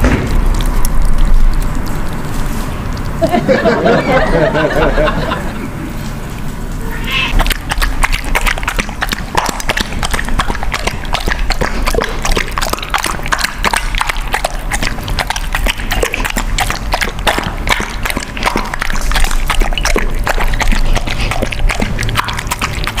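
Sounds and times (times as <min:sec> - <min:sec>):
animal lapping liquid: 0:00.0 - 0:06.7, 0:07.3 - 0:23.0.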